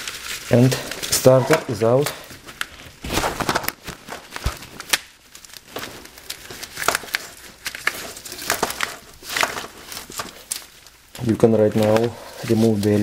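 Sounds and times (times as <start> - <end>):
hands rustling among hoses: 0.0 - 13.0.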